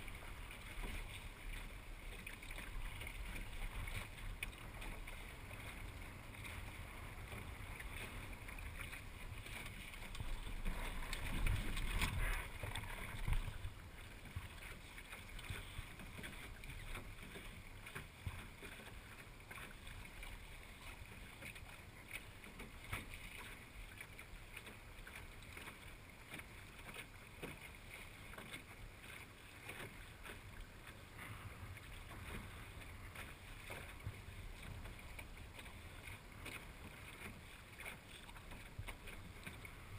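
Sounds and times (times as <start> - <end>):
water washing along hull: 0.0 - 39.9.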